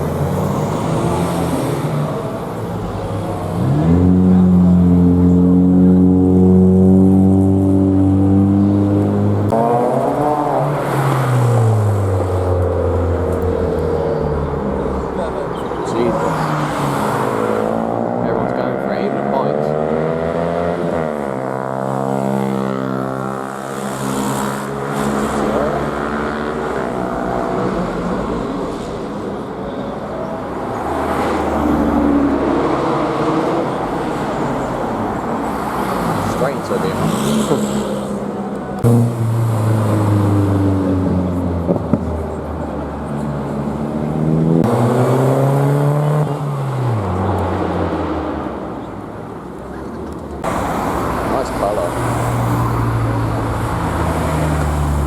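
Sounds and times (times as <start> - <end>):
vehicle engines revving: 0.0 - 55.0.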